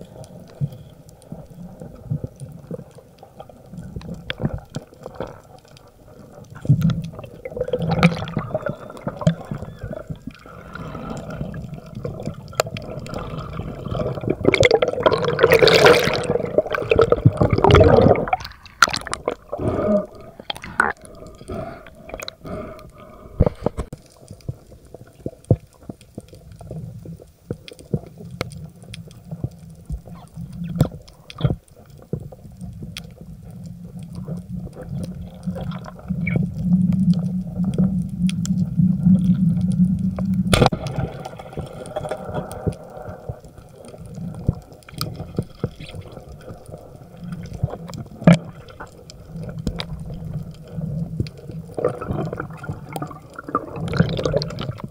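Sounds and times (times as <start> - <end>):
underwater rumble of moving water: 0.0 - 54.9
sharp underwater clicks: 0.2 - 54.9.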